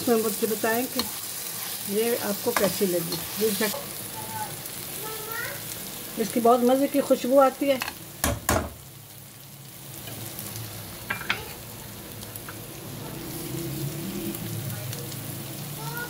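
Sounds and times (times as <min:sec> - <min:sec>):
curry sizzling in a metal pot: 0:00.0 - 0:16.0.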